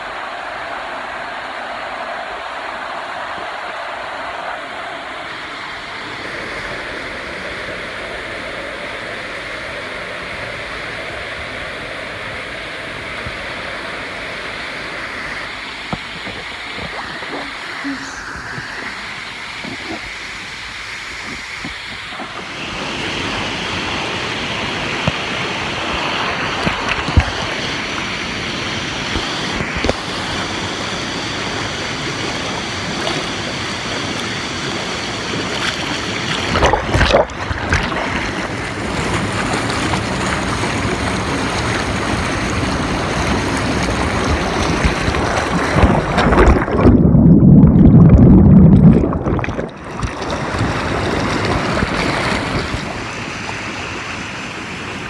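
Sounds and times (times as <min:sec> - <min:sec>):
hot tub jets churning water: 0:00.0 - 0:55.0.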